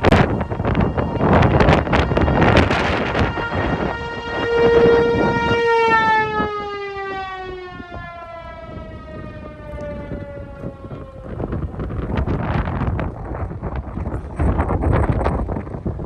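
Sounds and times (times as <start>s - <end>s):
gusty wind on microphone: 0.0s - 16.0s
wailing warning siren: 0.0s - 16.0s.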